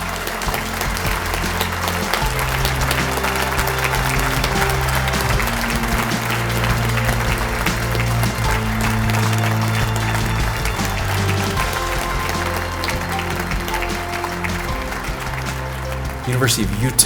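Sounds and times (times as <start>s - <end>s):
audience applauding: 0.0s - 17.0s
background music: 0.0s - 17.0s.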